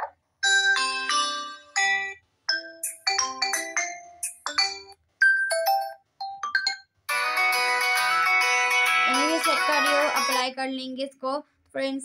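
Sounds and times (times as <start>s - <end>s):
ringtone chiming notes: 0.4s - 10.5s.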